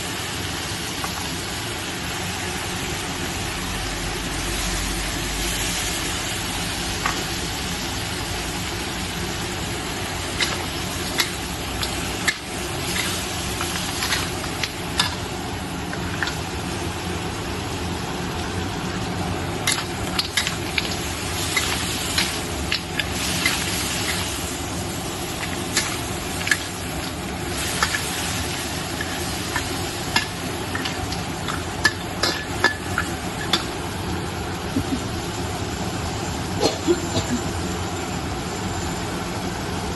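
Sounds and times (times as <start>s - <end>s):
crab sizzling in a pan: 0.0s - 39.8s.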